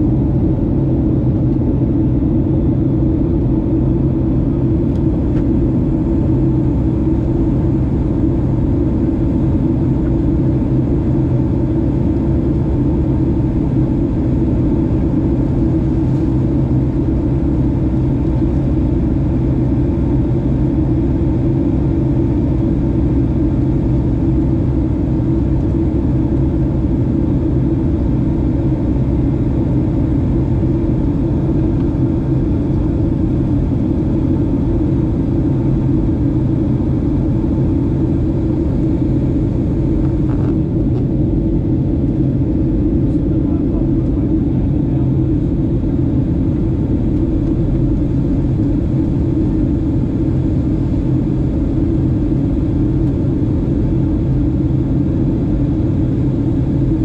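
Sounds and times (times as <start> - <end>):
constant low hum: 0.0 - 57.0
jet engine rumble: 0.0 - 57.0.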